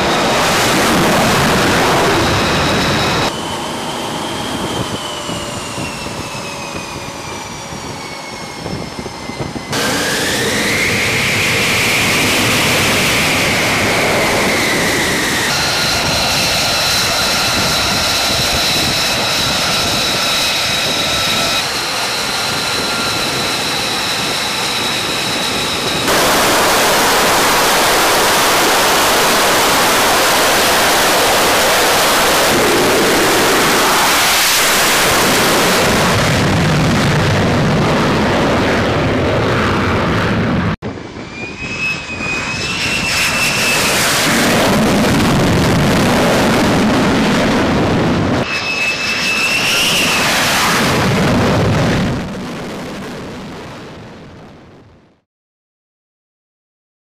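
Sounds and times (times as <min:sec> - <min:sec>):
jet engine roar at full power: 0:00.0 - 0:55.3
jet engine whine: 0:00.0 - 0:55.3.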